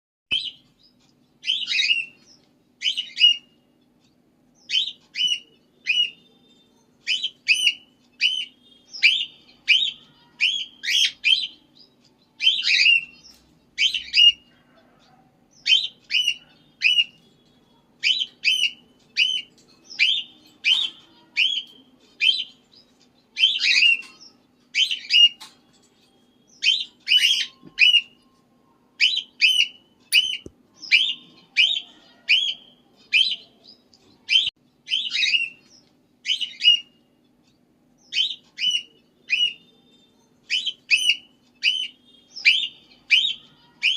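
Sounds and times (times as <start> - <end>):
parrot chirping: 0.3 - 3.6, 4.6 - 37.3, 38.0 - 43.9.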